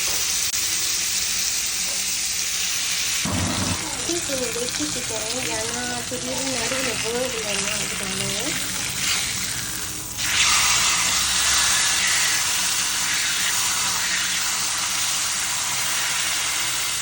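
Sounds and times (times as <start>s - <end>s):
chicken sizzling in butter: 0.0s - 17.0s.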